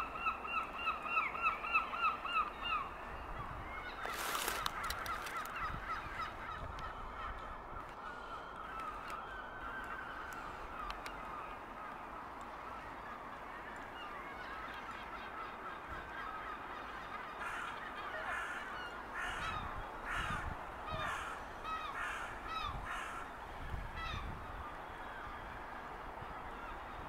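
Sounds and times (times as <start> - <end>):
water birds calling: 0.0 - 27.0.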